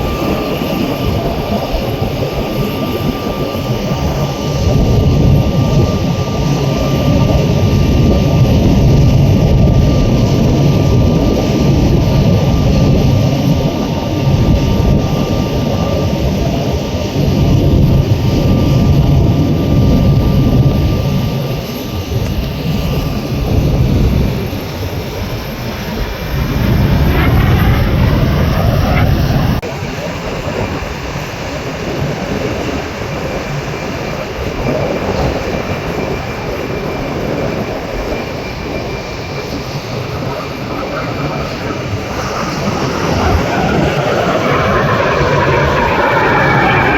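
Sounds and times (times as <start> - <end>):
rising jet whine: 0.0 - 31.3, 35.4 - 46.9
jet rumble: 0.0 - 46.9.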